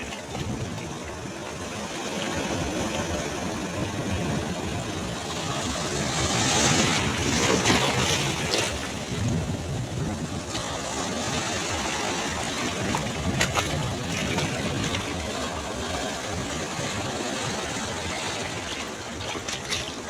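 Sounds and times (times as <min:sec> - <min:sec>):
sea waves washing on beach: 0:00.0 - 0:20.0.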